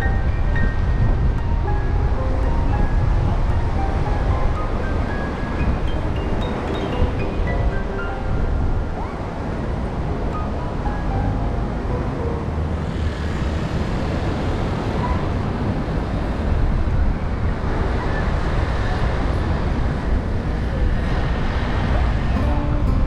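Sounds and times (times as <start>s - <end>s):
faint music notes: 0.0s - 23.0s
traffic noise: 0.0s - 23.0s
wind: 0.0s - 23.0s.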